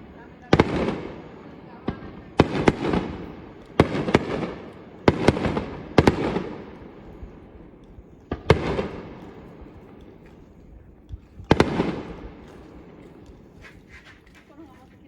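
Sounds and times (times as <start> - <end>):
fireworks bursting with echo: 0.0 - 15.0.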